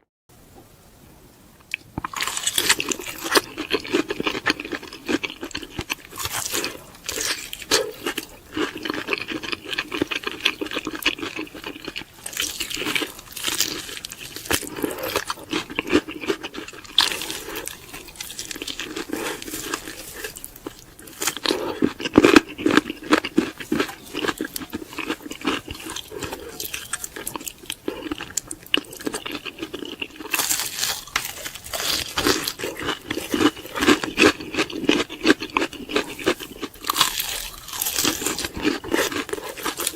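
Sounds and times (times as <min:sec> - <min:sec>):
crunchy chewing: 0:01.7 - 0:39.9.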